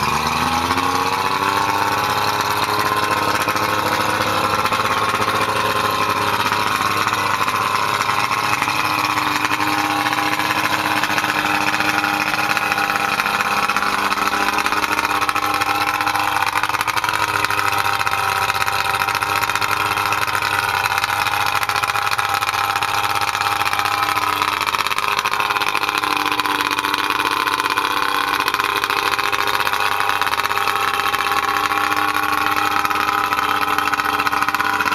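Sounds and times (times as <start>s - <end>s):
outboard motor running: 0.0s - 34.9s.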